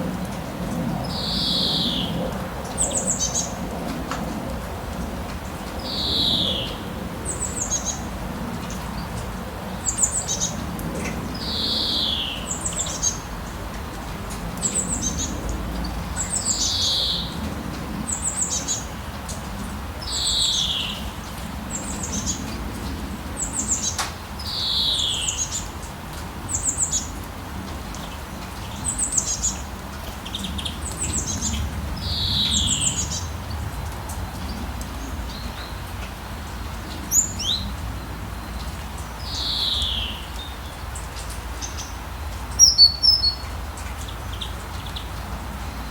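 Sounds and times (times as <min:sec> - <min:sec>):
songbirds calling: 0:00.9 - 0:27.2, 0:27.8 - 0:45.9.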